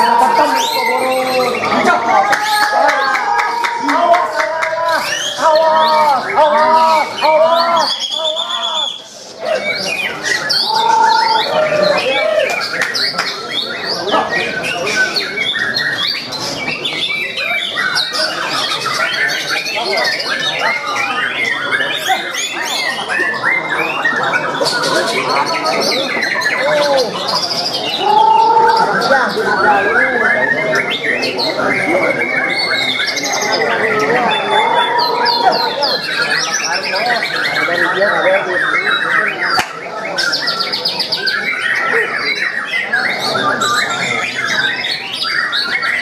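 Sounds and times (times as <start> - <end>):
birds singing whistled phrases: 0.0 - 46.0.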